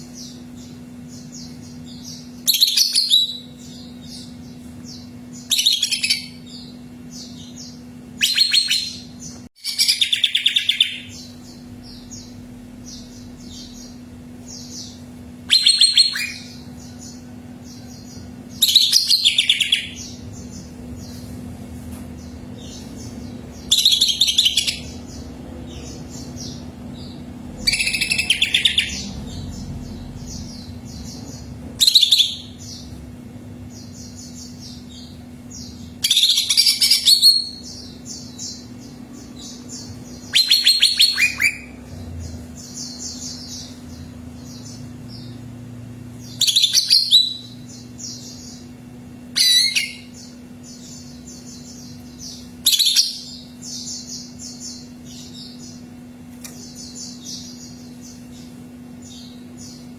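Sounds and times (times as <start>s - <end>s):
bird song bursts: 0.0s - 21.3s, 22.2s - 59.9s
steady low hum: 0.0s - 59.9s.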